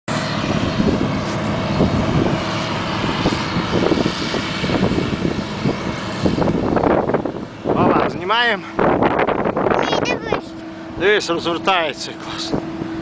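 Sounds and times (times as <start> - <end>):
combine harvester running: 0.1 - 9.2, 9.8 - 13.0.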